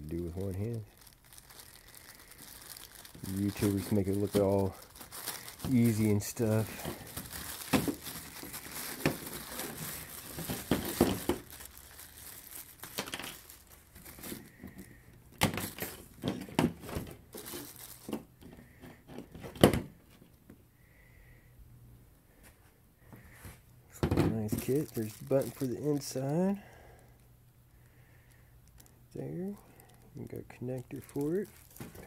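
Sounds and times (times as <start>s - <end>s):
plastic bag crinkling: 0.0s - 20.2s, 24.3s - 32.0s.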